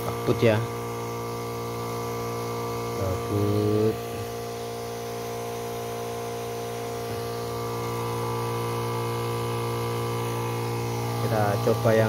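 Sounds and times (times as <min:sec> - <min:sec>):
sprayer pump humming: 0:00.0 - 0:12.0.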